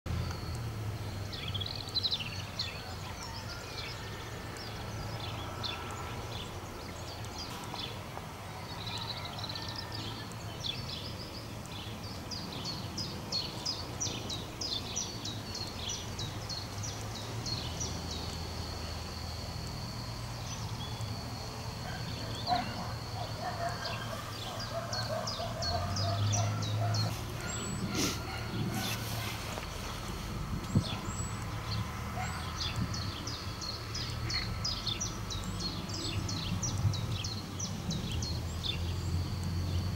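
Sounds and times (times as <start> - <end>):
songbirds chirping and trilling: 0.1 - 39.9
steady low hum: 0.1 - 39.9.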